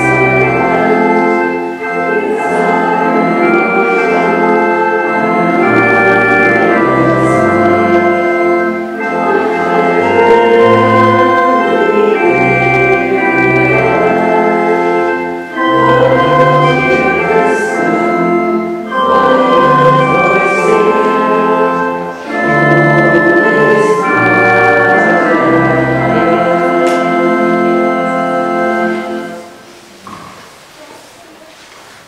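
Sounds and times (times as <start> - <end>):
organ playing slow chords: 0.0 - 30.1.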